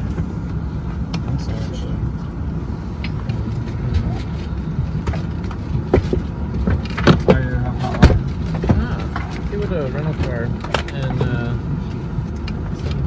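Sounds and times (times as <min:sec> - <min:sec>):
machinery rumble: 0:00.0 - 0:13.0.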